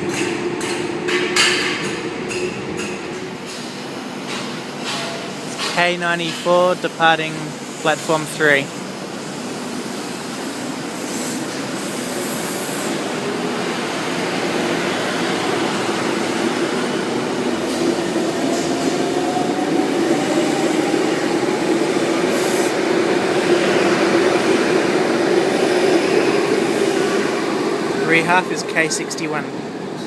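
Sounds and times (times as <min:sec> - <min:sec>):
electric train pulling past: 0:00.0 - 0:30.0.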